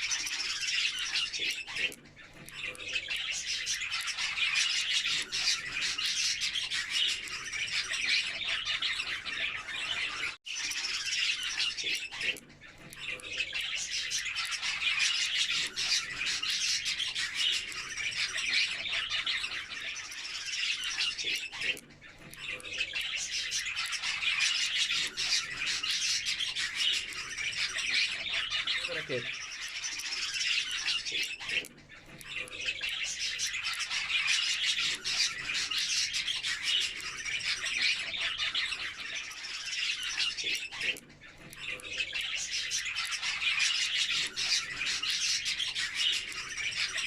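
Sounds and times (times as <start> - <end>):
budgerigars chattering and chirping: 0.0 - 47.0.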